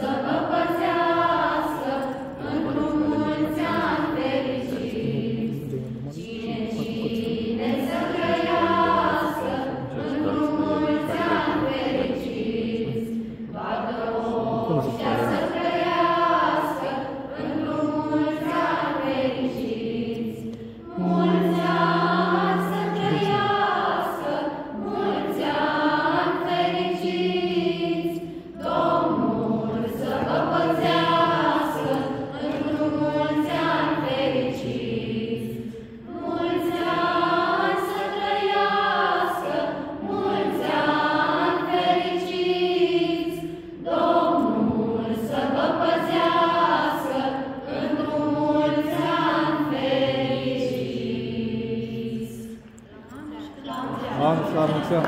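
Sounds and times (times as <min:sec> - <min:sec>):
choir singing a carol: 0:00.0 - 0:55.0.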